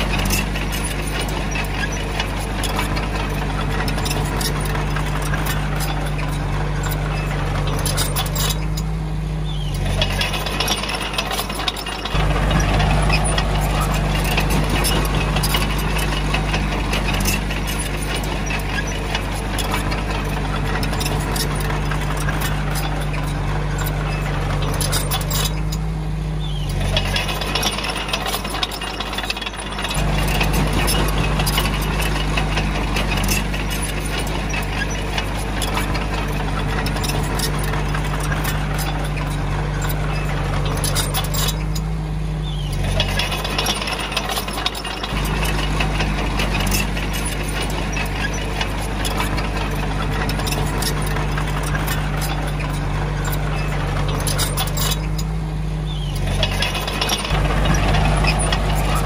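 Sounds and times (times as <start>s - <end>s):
bulldozer diesel engine running: 0.0s - 59.0s
metallic clanking and rattling: 0.0s - 59.0s.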